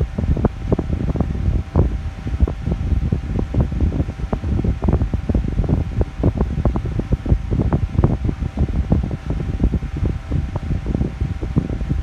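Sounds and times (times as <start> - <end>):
electric fan humming: 0.0 - 12.0
fan airflow buffeting microphone: 0.0 - 12.0.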